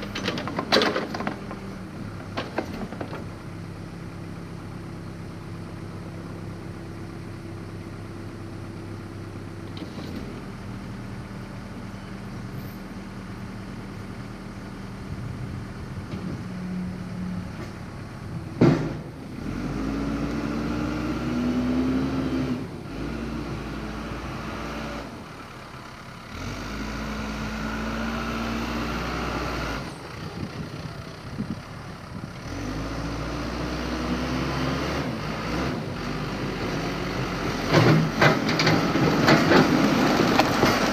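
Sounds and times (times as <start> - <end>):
backhoe engine running: 0.0 - 40.9.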